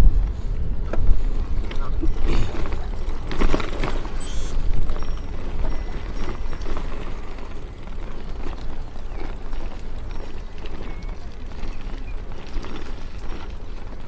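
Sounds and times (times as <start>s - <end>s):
bicycle rolling over paving: 0.0s - 14.0s
wind buffeting microphone: 0.0s - 14.0s.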